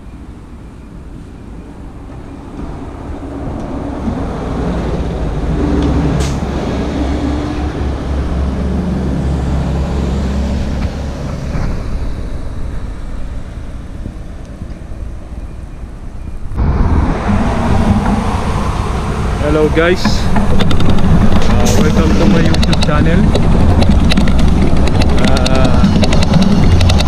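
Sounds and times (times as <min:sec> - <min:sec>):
bus driving past: 0:00.7 - 0:27.0.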